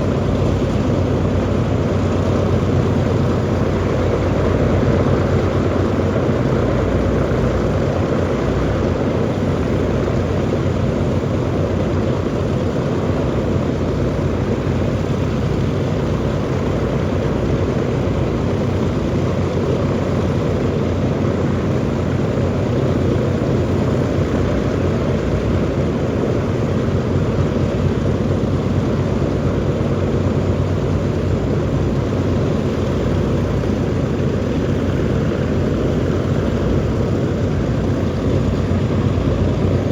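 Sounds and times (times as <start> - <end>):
radial engines droning: 0.0 - 39.9.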